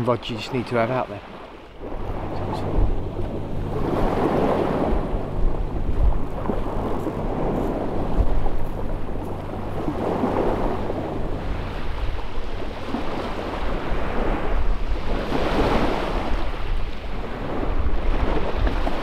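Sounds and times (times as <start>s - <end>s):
wind rumbling on microphone: 0.0s - 19.0s
waves washing onto shingle beach: 0.3s - 19.0s.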